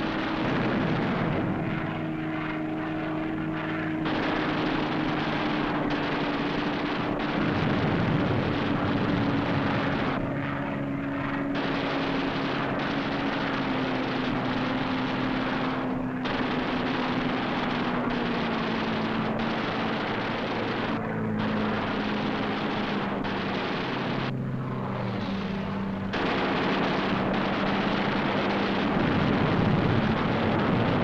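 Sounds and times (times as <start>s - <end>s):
propeller aircraft engine droning: 0.0s - 31.0s.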